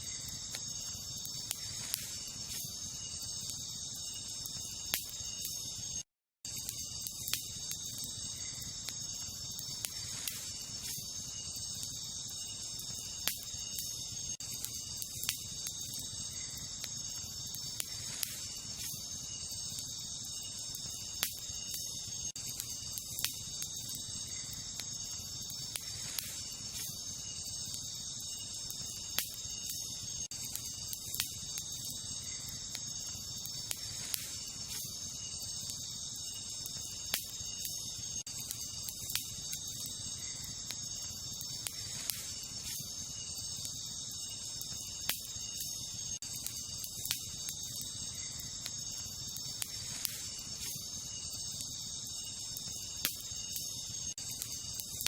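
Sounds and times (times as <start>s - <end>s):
campfire crackling and popping: 0.0s - 55.0s
night insects chorus: 0.0s - 55.0s.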